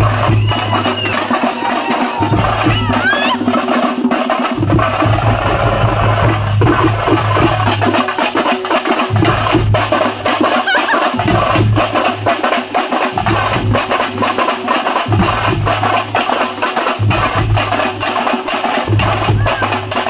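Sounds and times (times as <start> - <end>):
drum troupe beating fast rhythm: 0.0 - 20.0.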